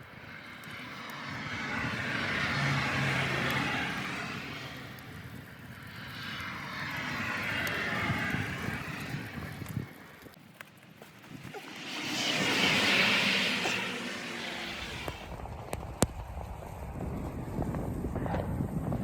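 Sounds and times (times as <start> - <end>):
blizzard wind gusting: 0.0 - 19.0.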